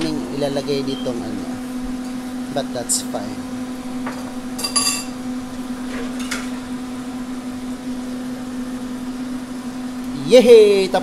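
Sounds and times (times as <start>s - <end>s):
kitchen appliance electric hum: 0.0s - 11.0s.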